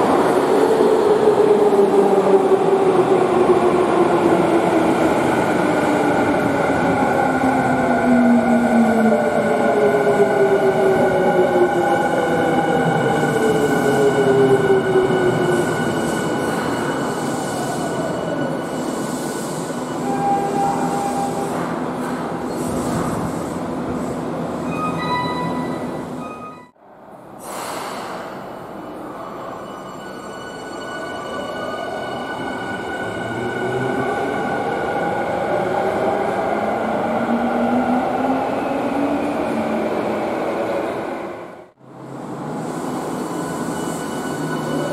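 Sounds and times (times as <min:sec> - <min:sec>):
subway train rumble: 0:00.0 - 0:44.9.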